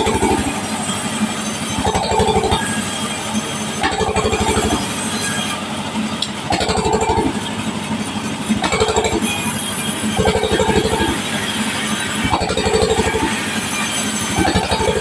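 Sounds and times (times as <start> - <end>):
band saw ripping through timber: 0.0 - 5.7, 8.5 - 15.0
engine low beat: 0.0 - 13.7
saw blade whine: 0.0 - 15.0.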